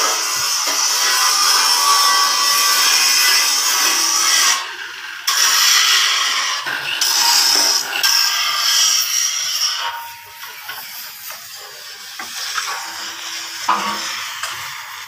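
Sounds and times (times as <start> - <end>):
power tool cutting wood: 0.0 - 15.0.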